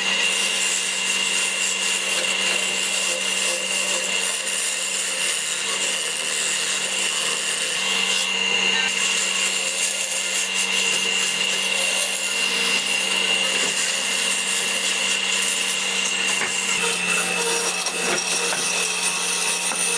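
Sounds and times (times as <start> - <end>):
turning tool scraping wood: 0.0 - 19.9
wood lathe humming: 0.0 - 19.9.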